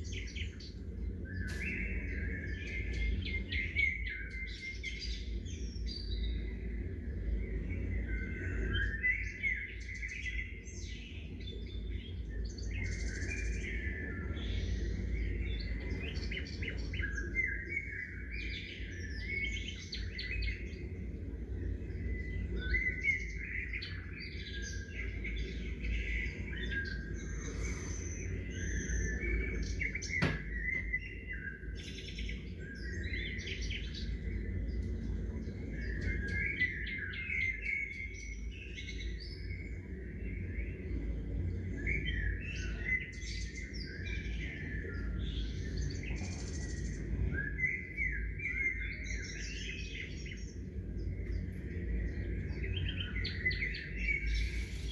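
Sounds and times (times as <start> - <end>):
low background rumble: 0.0 - 54.9
songbirds chirping and trilling: 0.0 - 54.9.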